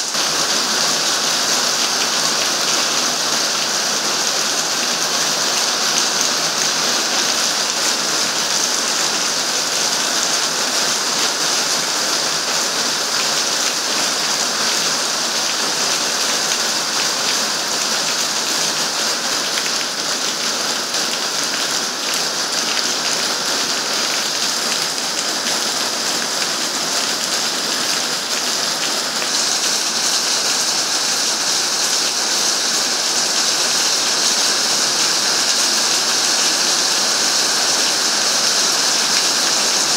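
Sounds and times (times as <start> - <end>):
heavy rain on wet pavement: 0.0 - 39.9.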